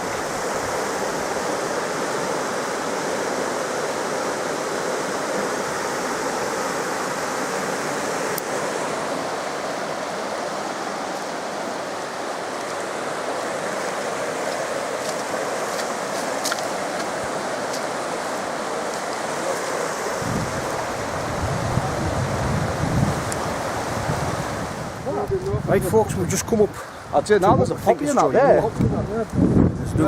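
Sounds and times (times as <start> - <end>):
stream rushing: 0.0 - 30.0.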